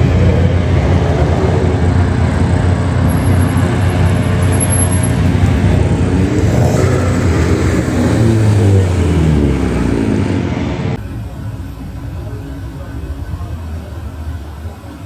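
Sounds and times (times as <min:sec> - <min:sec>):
car engines revving: 0:00.0 - 0:15.0
cars driving past: 0:00.0 - 0:15.0.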